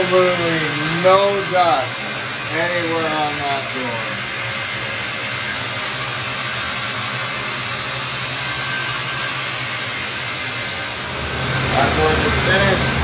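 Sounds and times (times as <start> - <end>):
dust extraction vacuum rushing: 0.0 - 13.0.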